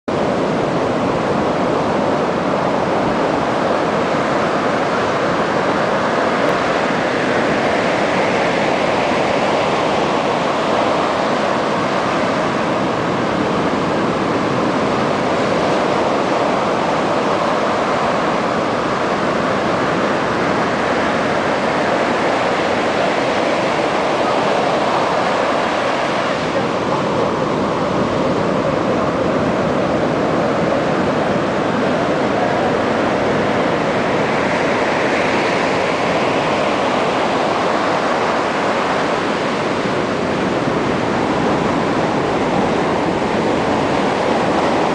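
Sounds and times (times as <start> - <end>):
ocean surf breaking on beach: 0.1 - 44.9.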